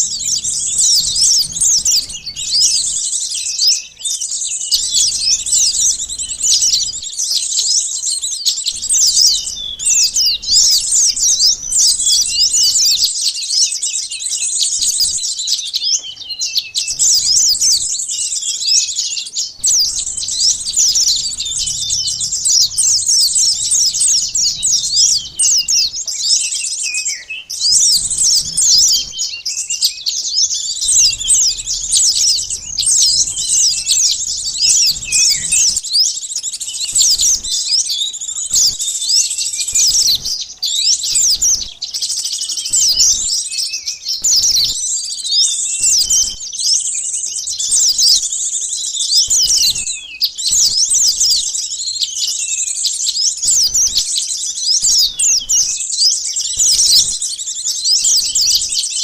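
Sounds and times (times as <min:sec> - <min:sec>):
rapid bird chirps and twitters: 0:00.0 - 0:59.0.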